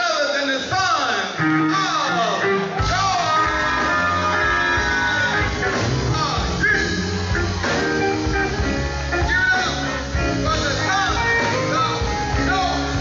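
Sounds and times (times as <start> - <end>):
gospel band playing: 0.0 - 13.0
electric guitar sliding notes: 1.3 - 13.0.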